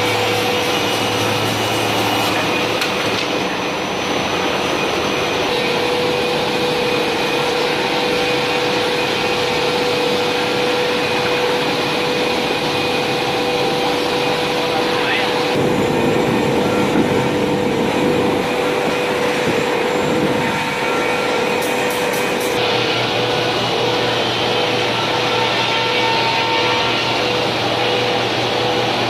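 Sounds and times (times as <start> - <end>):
band saw running: 0.0 - 29.0.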